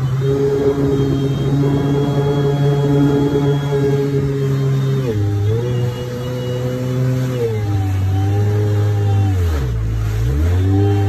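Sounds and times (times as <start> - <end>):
jet ski engine droning whine: 0.0 - 11.0
water hissing off hull: 0.0 - 11.0.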